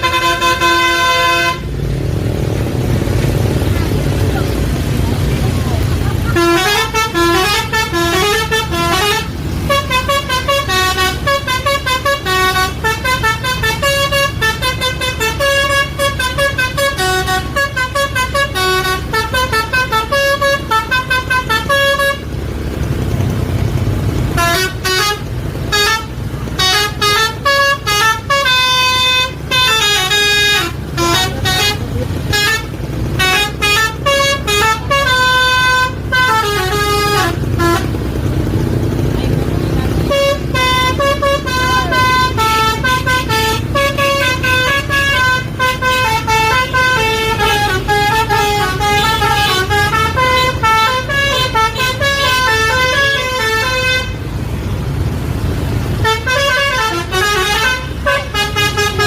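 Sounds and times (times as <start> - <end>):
multi-tone bus horn tunes: 0.0 - 2.1, 5.6 - 59.0
bus engine running: 0.0 - 59.0.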